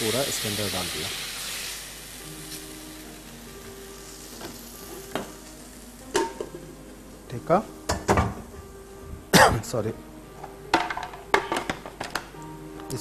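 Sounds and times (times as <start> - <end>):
pan sizzling: 0.0 - 9.0, 9.6 - 13.0.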